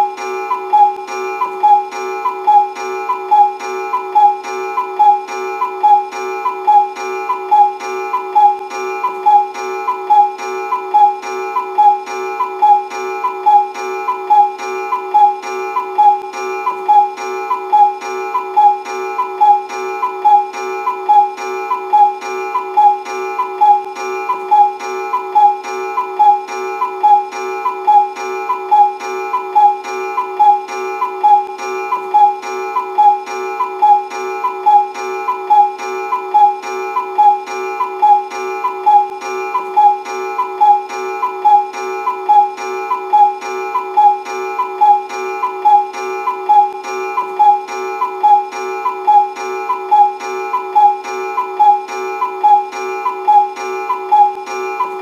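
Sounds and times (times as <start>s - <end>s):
cuckoo clock pattern: 0.0s - 55.0s
steady held tone: 0.0s - 55.0s.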